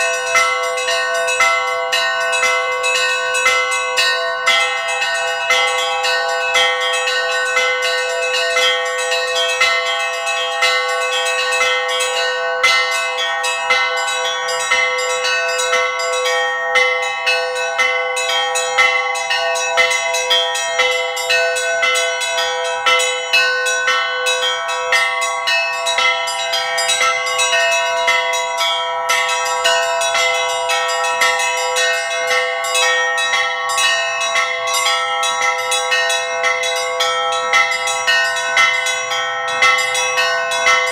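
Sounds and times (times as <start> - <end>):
small church bells pealing: 0.0 - 40.9.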